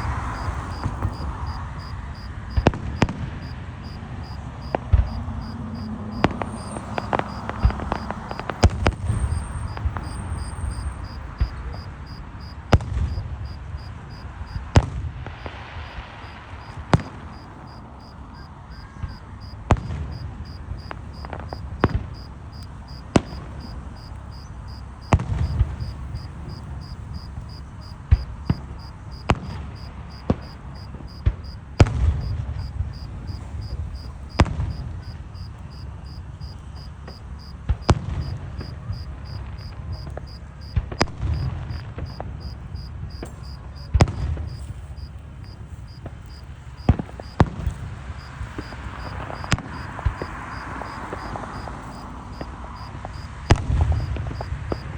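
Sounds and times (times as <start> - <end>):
crickets chirping: 0.0 - 54.9
fireworks bangs and pops: 0.0 - 54.9
fireworks low thuds: 0.0 - 54.9.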